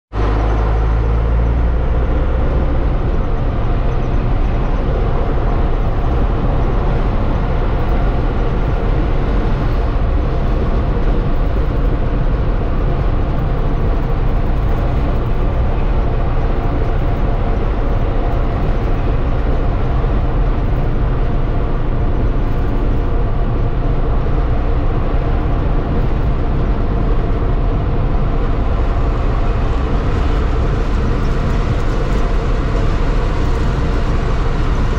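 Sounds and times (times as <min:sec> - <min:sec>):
diesel truck engine rumbling: 0:00.1 - 0:34.9.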